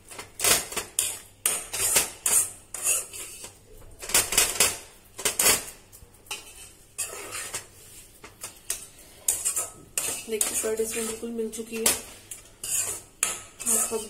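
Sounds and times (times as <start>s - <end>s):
spatula scraping a pan: 0.0s - 14.0s.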